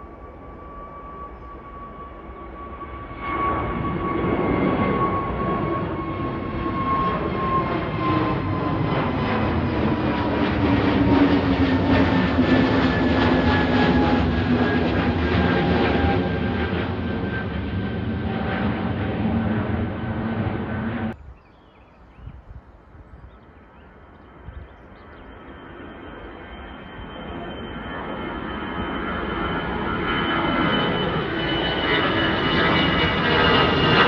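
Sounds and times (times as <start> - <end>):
jet airliner taking off: 0.0 - 21.2, 23.2 - 34.0.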